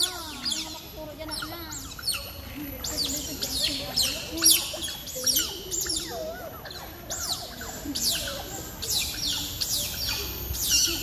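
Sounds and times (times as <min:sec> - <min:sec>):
otters chirping: 0:00.0 - 0:11.0.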